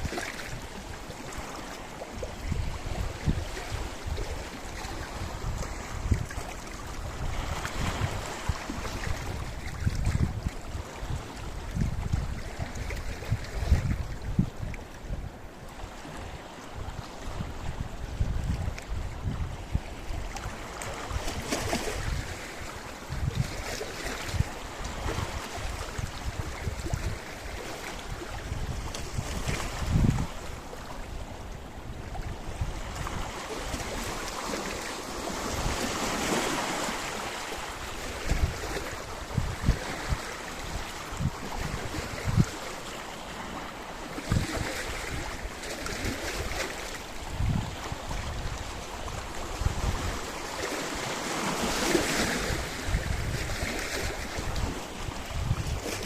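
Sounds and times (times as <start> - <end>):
wind buffeting microphone: 0.0 - 43.0, 44.0 - 56.0
waves breaking on rocky shore: 0.0 - 56.0.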